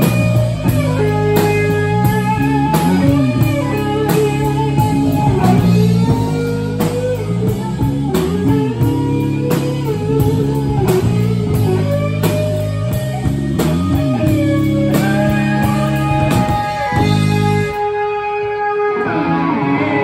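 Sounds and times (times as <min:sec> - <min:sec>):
steady drum beat: 0:00.0 - 0:17.9
electric bass: 0:00.0 - 0:20.0
electric guitar bending notes: 0:00.0 - 0:20.0.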